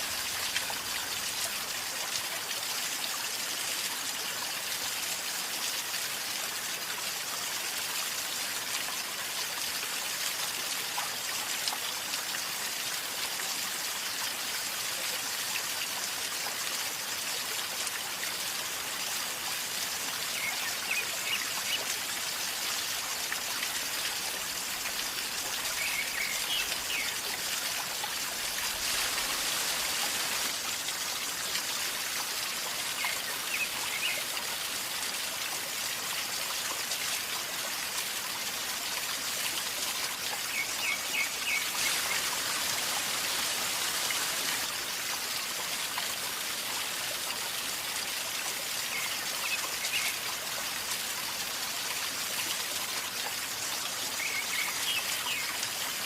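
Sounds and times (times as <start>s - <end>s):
river water gurgling: 0.0s - 56.0s.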